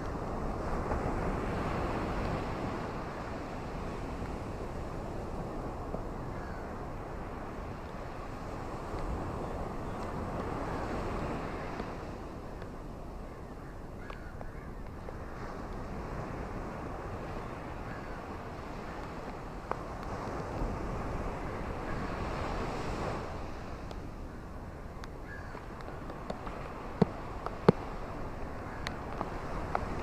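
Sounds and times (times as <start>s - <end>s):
ocean surf washing onto beach: 0.0s - 13.3s, 13.9s - 30.0s.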